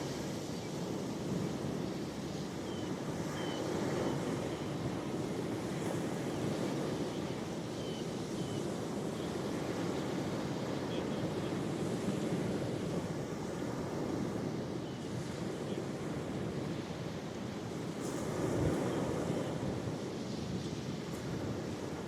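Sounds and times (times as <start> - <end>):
ocean waves washing on shore: 0.0 - 22.0.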